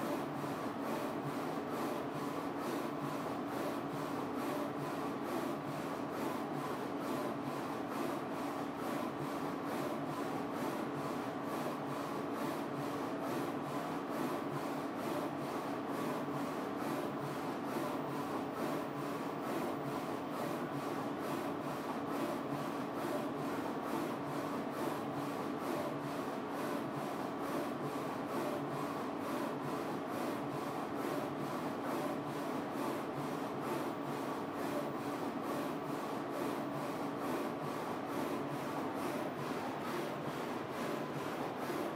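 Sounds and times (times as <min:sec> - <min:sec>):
printer carriage whirring: 0:00.0 - 0:41.9.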